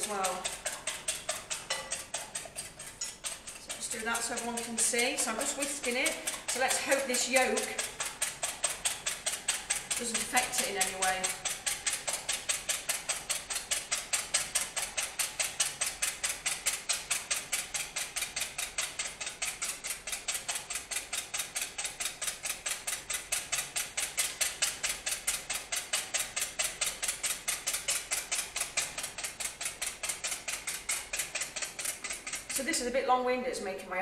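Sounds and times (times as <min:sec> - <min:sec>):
whisk ticking against glass bowl: 0:00.0 - 0:33.9.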